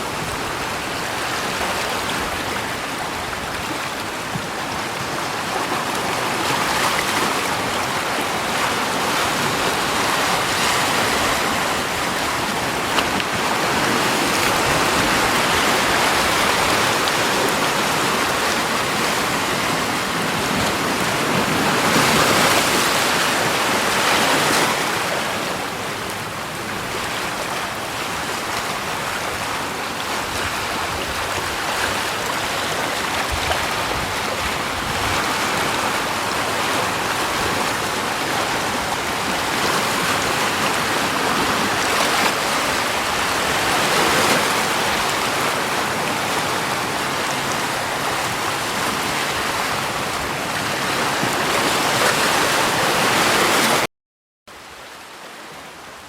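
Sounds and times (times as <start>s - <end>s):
rushing water: 0.0s - 53.9s, 54.5s - 56.0s.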